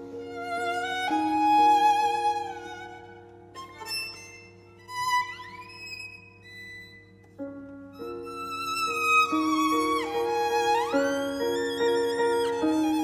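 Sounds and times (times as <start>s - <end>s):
piano accompaniment: 0.0s - 13.0s
violin: 0.0s - 13.0s.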